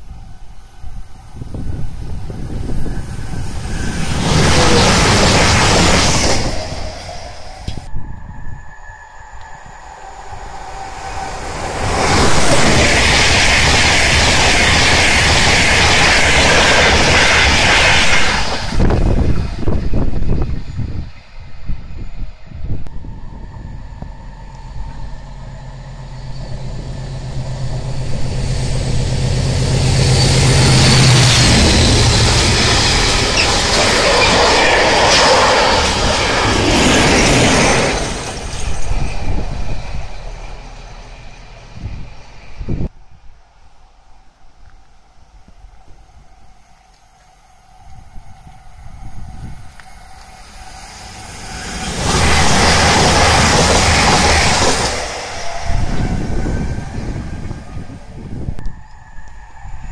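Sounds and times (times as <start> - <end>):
wheels hissing on rail: 0.0 - 42.9, 43.5 - 59.9
diesel locomotive engine drone: 0.0 - 59.9
train passing at speed: 0.0 - 59.9.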